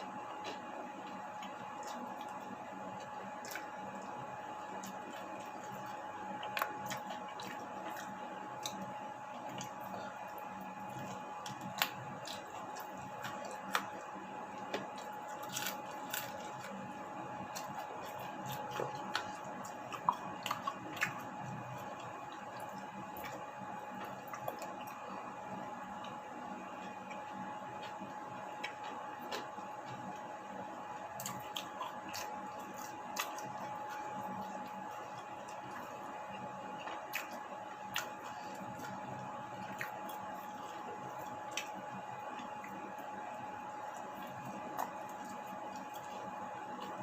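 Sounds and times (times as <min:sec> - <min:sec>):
background hum: 0:00.0 - 0:47.0
wet chewing: 0:00.2 - 0:25.1, 0:25.9 - 0:47.0.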